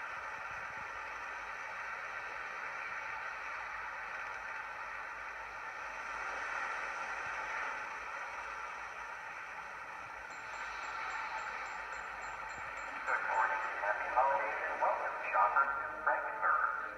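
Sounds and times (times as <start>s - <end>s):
train running: 0.0s - 16.9s.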